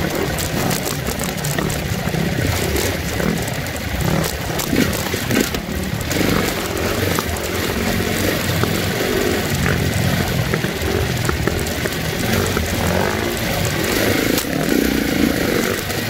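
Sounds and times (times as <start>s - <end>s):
bike knocking over rocks: 0.0s - 14.5s
dirt bike engine running: 0.0s - 16.0s.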